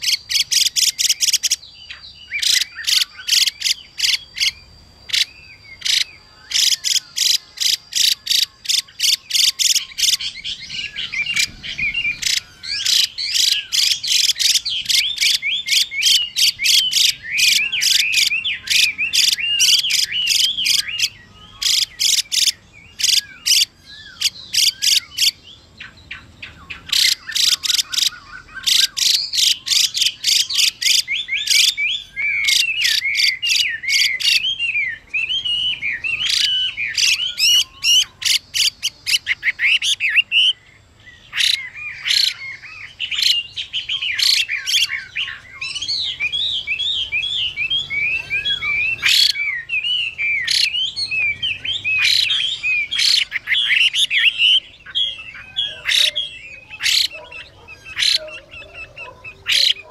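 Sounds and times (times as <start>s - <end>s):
bird harsh rasping calls: 0.0s - 25.4s, 26.0s - 40.6s, 41.2s - 59.9s
bird whistled song: 0.0s - 59.9s.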